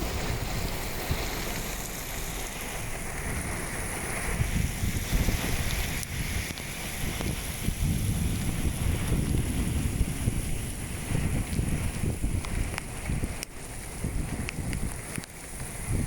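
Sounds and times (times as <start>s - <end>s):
rain falling: 0.0s - 16.0s
wind gusting on microphone: 0.0s - 16.0s.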